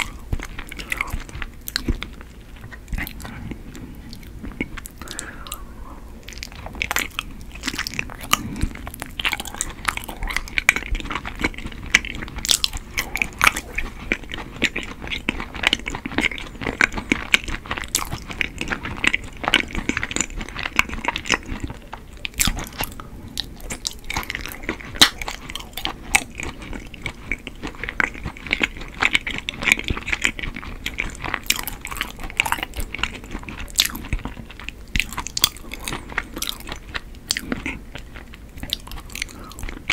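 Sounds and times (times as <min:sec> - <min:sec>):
chewing rice cake: 0:00.0 - 0:39.9.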